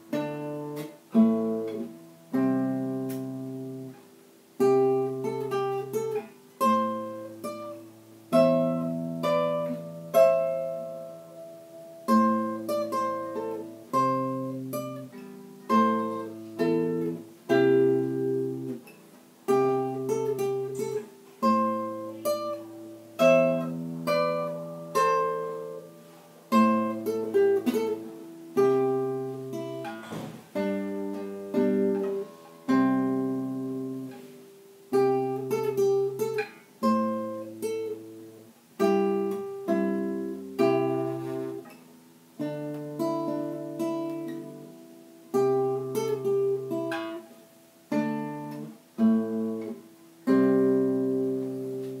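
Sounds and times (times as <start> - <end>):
solo acoustic guitar: 0.0 - 52.0.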